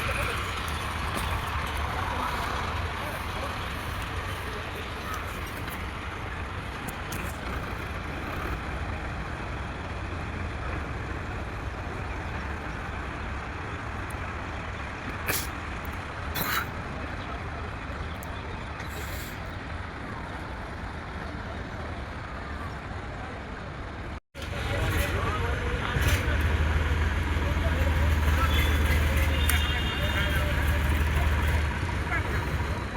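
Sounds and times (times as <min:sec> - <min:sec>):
tractor engine droning: 0:00.0 - 0:22.5, 0:23.8 - 0:32.9.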